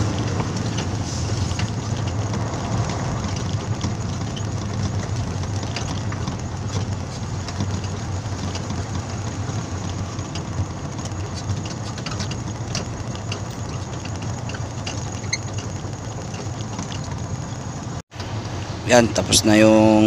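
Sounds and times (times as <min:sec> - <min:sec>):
light ticks and rattles: 0:00.0 - 0:20.0
road noise: 0:00.0 - 0:20.0
truck engine drone: 0:00.0 - 0:20.0.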